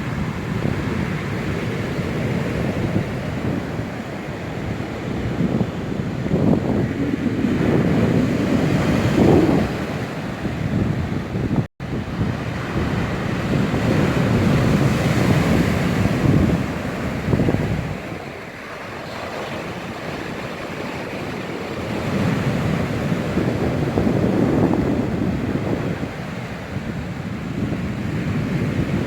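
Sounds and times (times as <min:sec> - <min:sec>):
storm surf breaking on shore: 0:00.0 - 0:29.0
wind buffeting microphone: 0:00.0 - 0:29.0.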